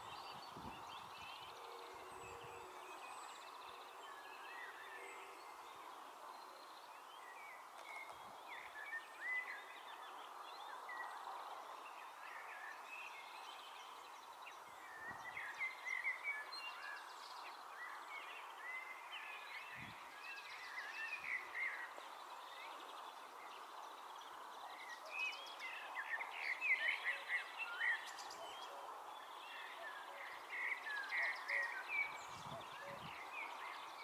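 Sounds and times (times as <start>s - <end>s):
songbirds chirping: 0.0s - 34.0s
steady outdoor hiss: 0.0s - 34.0s.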